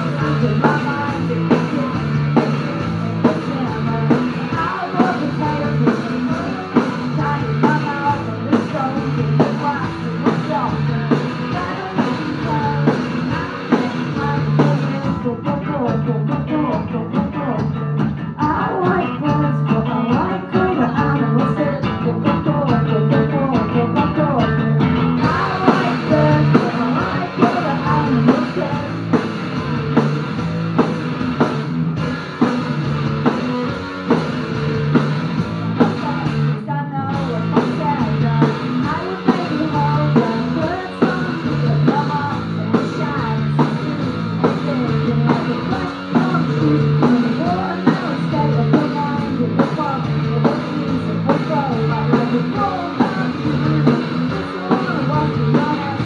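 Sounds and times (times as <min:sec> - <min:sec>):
person singing: 0:00.0 - 0:29.7, 0:33.0 - 0:34.5, 0:35.3 - 0:56.0
distorted electric guitar: 0:00.0 - 0:56.0
drum kit: 0:00.0 - 0:56.0.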